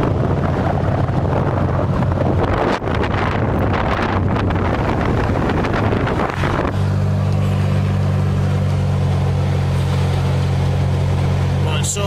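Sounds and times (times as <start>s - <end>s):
wind buffeting microphone: 0.0s - 11.6s
car driving drone: 0.0s - 12.0s.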